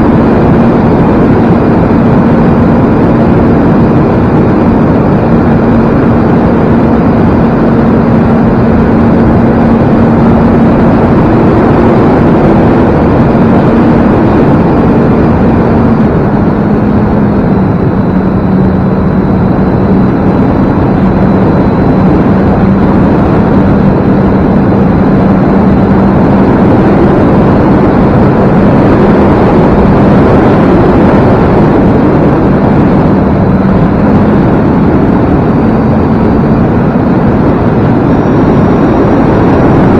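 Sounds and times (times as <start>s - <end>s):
loud rushing noise: 0.0s - 39.9s.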